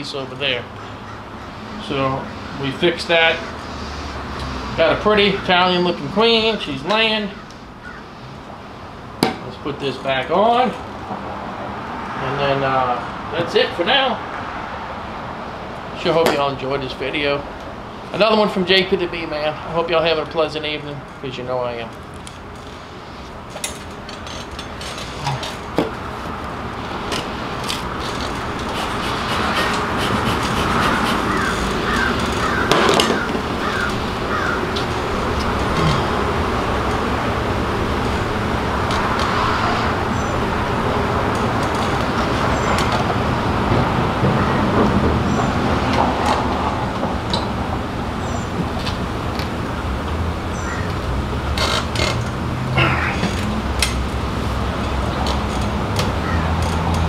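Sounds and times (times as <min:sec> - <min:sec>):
rushing background noise: 0:00.0 - 0:57.0.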